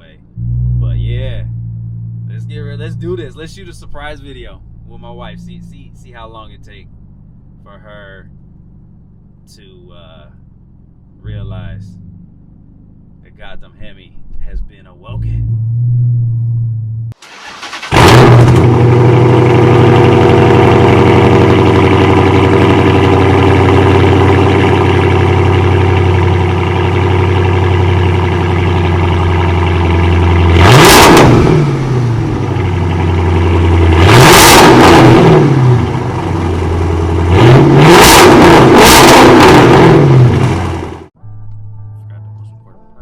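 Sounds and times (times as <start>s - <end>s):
car engine revving: 0.0s - 13.9s, 14.9s - 41.2s
car engine starting and idling: 0.0s - 42.8s.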